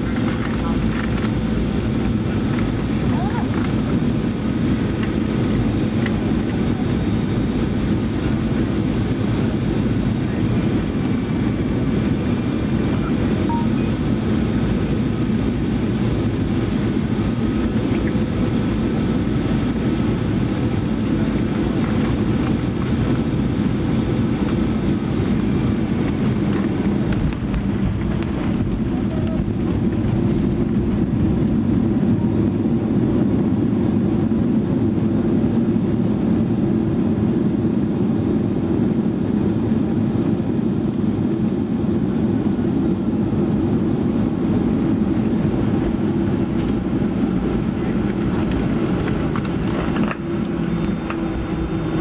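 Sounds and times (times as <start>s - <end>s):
jet engines with high whine: 0.0s - 52.0s.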